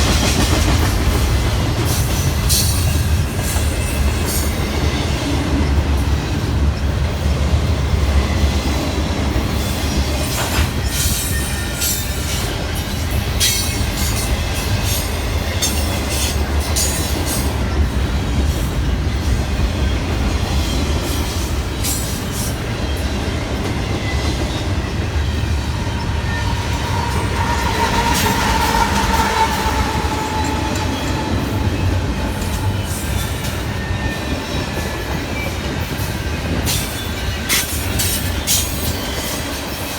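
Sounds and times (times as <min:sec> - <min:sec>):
train wheel squeal: 0:00.0 - 0:39.9
train wheels rumbling: 0:00.0 - 0:39.9.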